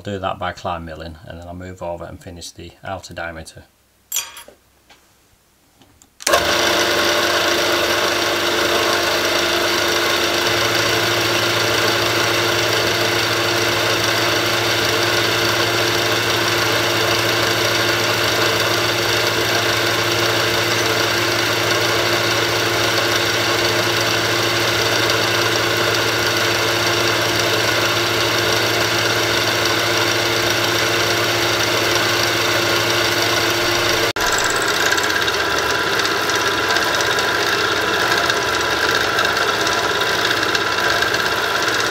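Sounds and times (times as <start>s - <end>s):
end mill cutting brass: 6.2s - 41.9s
milling machine spindle running: 6.2s - 41.9s.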